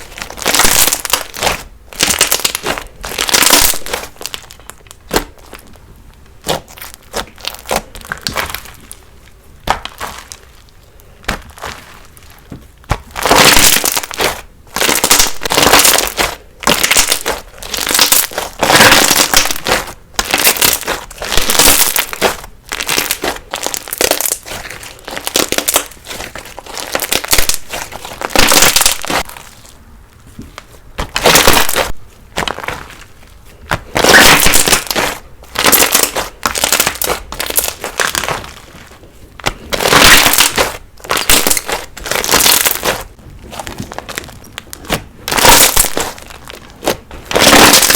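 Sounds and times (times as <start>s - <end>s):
slime crackling and crunching: 0.0s - 47.9s.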